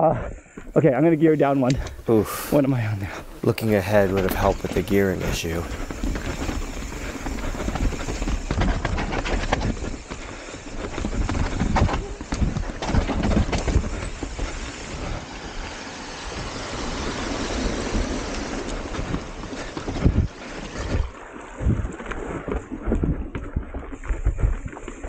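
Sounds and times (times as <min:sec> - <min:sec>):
bike knocking and rattling: 0:00.4 - 0:25.0
bike tyres rolling over dirt and stones: 0:00.4 - 0:25.0.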